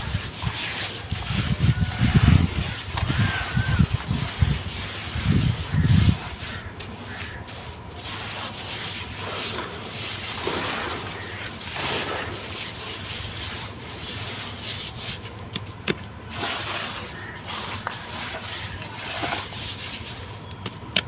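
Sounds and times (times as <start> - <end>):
gritty scraping of crumbling blocks: 0.0 - 21.0.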